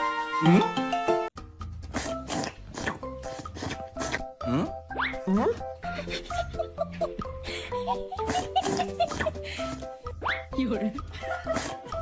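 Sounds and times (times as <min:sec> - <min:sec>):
background music with low beat: 0:01.4 - 0:12.0.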